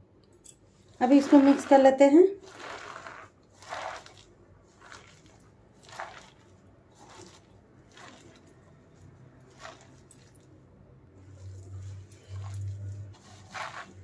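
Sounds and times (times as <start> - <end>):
hand squishing spinach and flour: 0.8 - 14.0.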